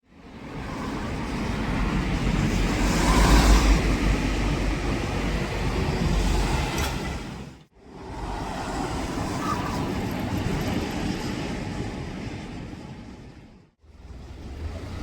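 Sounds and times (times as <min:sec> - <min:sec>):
traffic rumble: 0:00.3 - 0:15.0.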